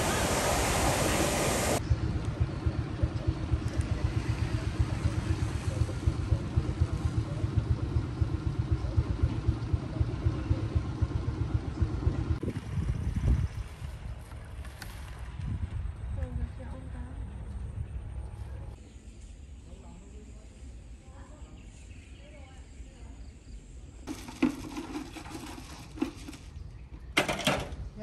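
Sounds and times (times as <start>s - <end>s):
engine rumbling: 0.0s - 18.9s, 23.8s - 28.0s.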